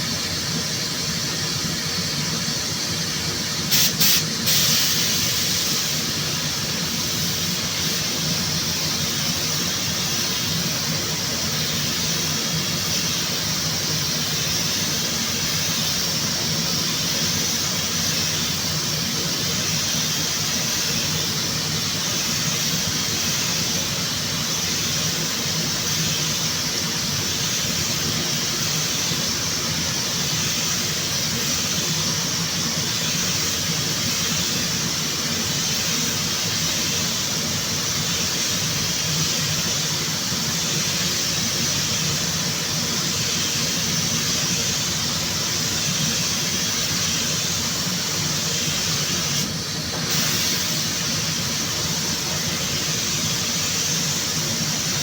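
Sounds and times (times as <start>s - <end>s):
spray gun hissing: 0.1s - 55.0s.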